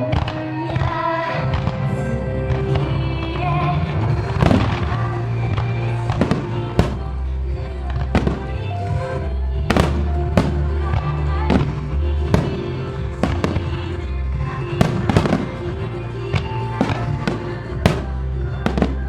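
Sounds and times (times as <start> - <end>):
fireworks bursting: 0.0 - 19.0
recorded song music: 0.0 - 19.0.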